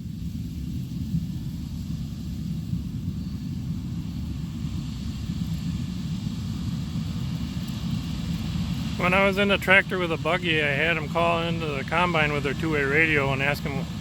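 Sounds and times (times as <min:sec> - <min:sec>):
combine harvester engine rumbling: 0:00.8 - 0:14.0.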